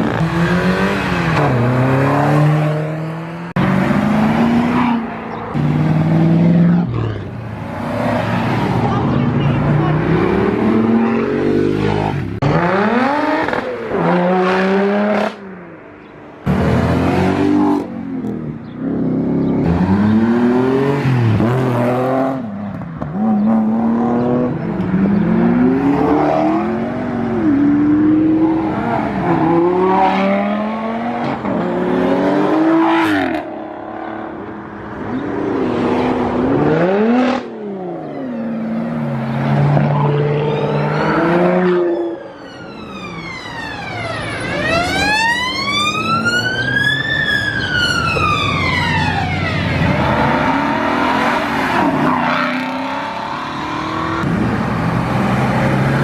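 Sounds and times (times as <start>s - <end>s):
cars accelerating hard: 0.0s - 15.4s, 16.4s - 42.2s, 43.0s - 56.0s.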